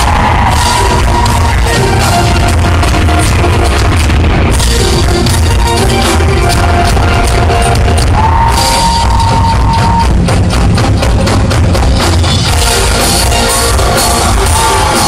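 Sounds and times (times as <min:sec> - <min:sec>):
live rock band playing loudly: 0:00.0 - 0:15.0.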